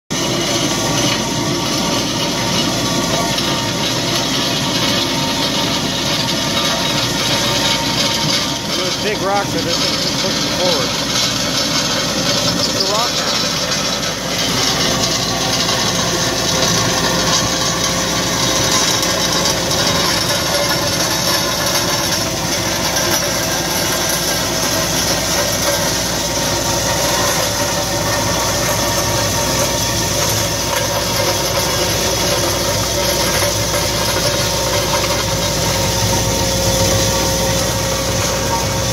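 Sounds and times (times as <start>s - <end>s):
diesel engine running under load: 0.1s - 38.9s
rake grinding through gravel: 0.2s - 38.9s.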